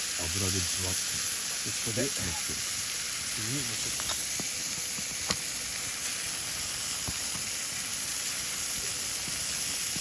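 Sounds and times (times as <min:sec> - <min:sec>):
meat sizzling on a griddle: 0:00.0 - 0:10.0.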